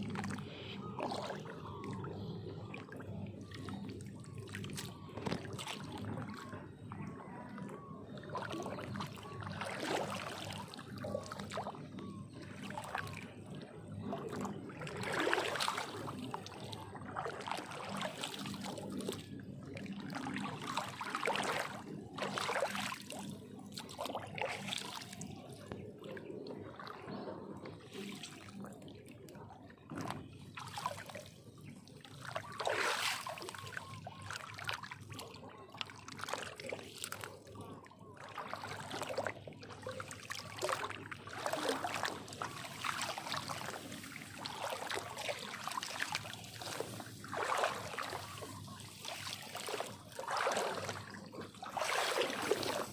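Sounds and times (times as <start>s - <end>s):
water sloshing and splashing: 0.0s - 52.9s.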